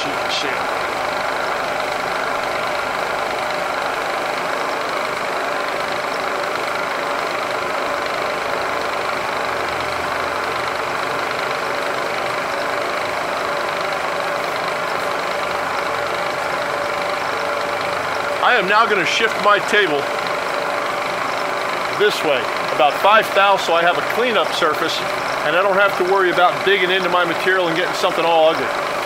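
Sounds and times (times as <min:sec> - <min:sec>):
milling machine cutting metal: 0:00.0 - 0:29.0.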